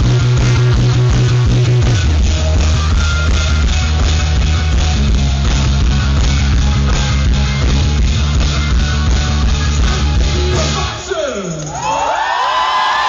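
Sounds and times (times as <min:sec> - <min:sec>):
live rock band playing: 0:00.0 - 0:11.8.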